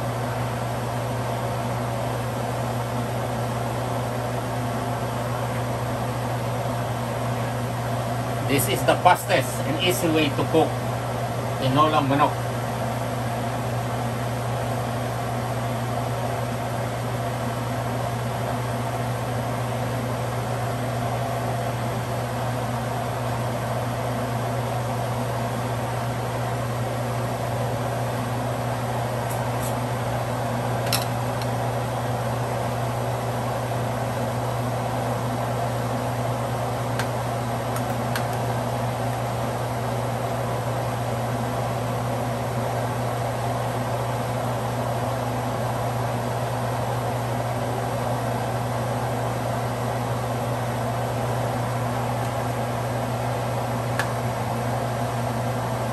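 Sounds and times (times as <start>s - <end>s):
fan hum: 0.0s - 55.9s.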